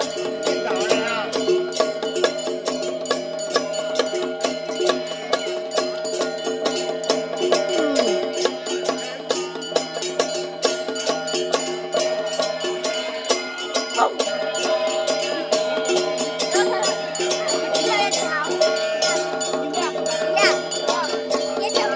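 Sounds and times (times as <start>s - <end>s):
percussion strikes: 0.0s - 21.9s.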